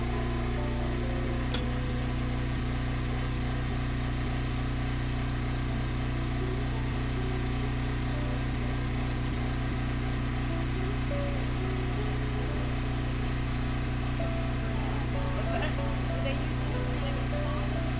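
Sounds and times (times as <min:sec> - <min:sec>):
engine humming steadily: 0:00.0 - 0:17.9.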